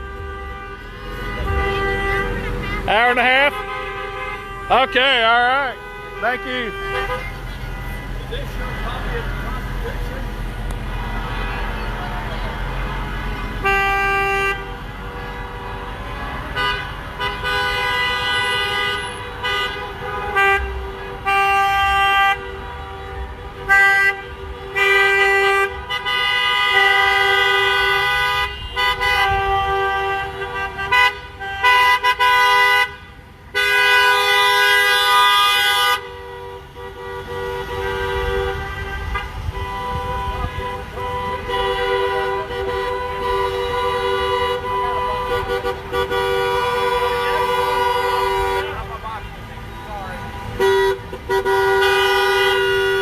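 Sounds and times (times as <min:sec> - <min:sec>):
car horns honking: 0:00.0 - 0:53.0
passing traffic rumble: 0:00.0 - 0:53.0.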